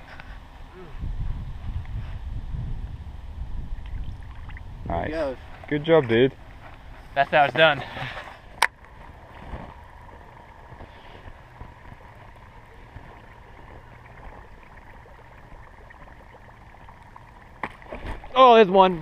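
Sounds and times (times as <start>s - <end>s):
wind and water rushing: 0.0s - 19.0s.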